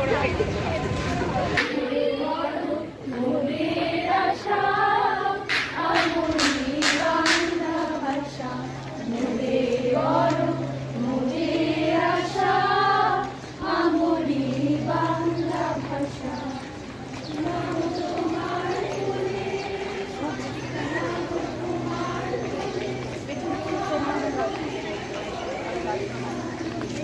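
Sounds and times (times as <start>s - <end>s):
women singing in unison: 1.6s - 26.8s.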